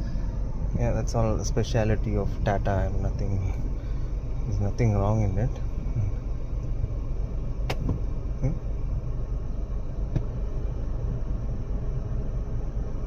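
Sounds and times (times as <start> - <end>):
air conditioning blower: 0.0 - 13.0
car engine idling: 0.0 - 13.0.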